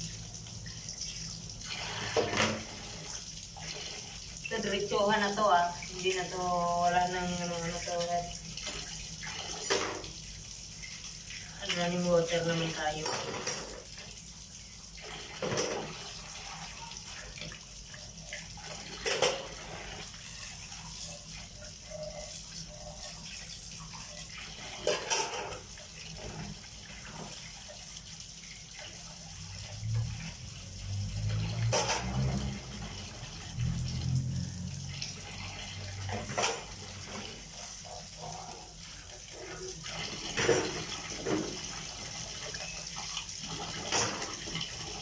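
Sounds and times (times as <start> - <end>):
water running from a tap: 0.0 - 45.0.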